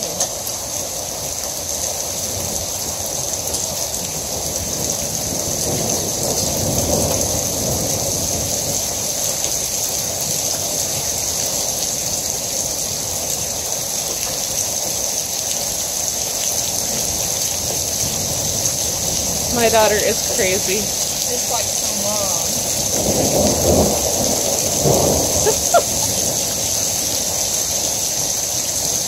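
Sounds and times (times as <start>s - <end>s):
heavy rain on pavement and car roof: 0.0s - 29.0s.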